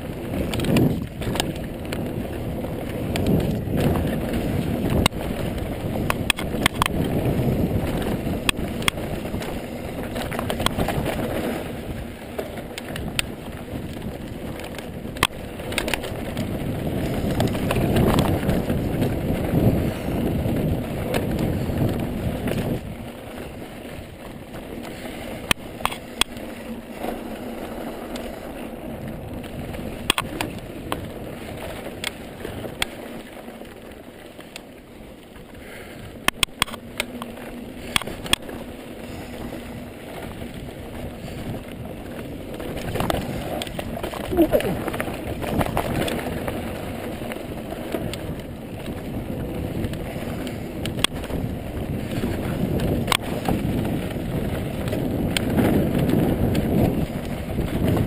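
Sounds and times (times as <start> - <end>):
wind on microphone: 0.0 - 33.8, 35.3 - 58.0
bike clicks and rattles: 0.0 - 58.0
tyres rumbling on dirt: 0.0 - 58.0.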